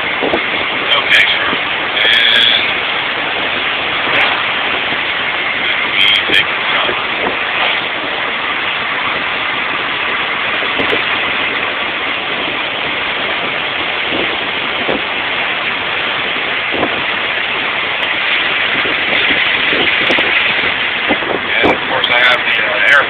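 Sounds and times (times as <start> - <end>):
car cabin road noise: 0.0 - 23.0.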